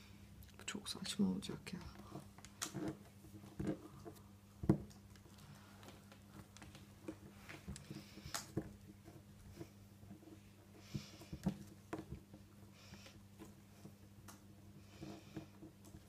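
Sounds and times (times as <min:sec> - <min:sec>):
hands patting modelling dough: 0:01.6 - 0:16.0.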